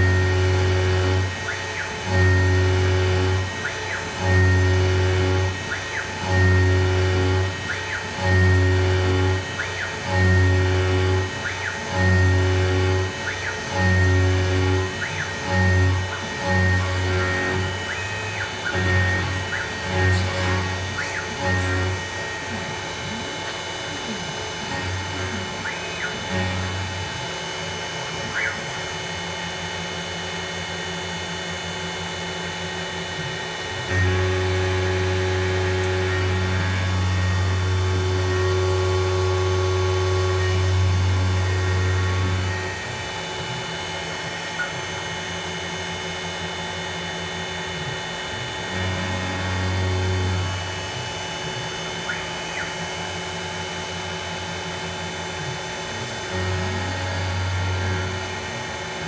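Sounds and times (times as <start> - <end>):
pulsing low hum: 0.0 - 31.2, 32.0 - 59.0
mill spindle cutting metal: 0.0 - 59.0
rising and falling whine: 0.0 - 59.0.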